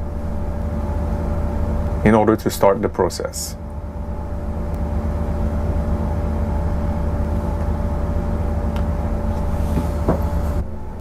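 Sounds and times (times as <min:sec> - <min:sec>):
thin steady whine: 0:00.0 - 0:11.0.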